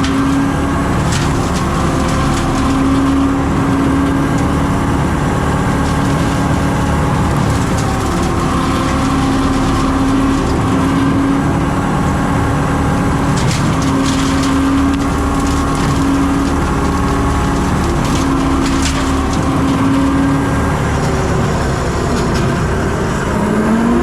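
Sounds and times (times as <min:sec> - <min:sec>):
engine running under load: 0:00.0 - 0:24.0.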